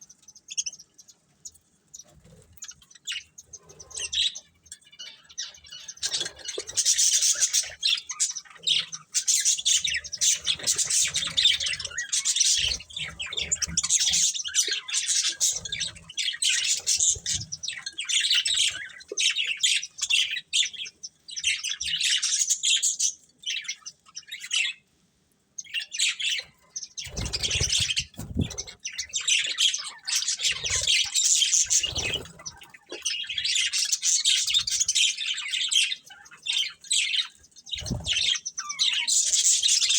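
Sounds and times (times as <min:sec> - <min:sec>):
budgerigars chirping: 0:01.9 - 0:24.9, 0:25.6 - 0:39.9.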